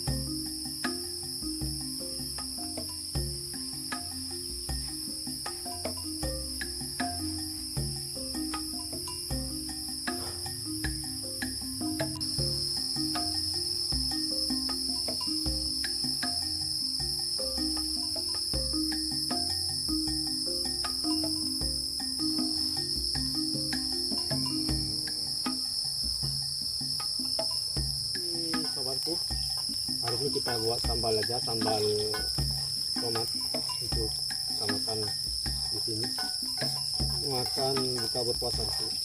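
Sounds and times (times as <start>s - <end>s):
insects shrill trilling: 0.0s - 39.0s.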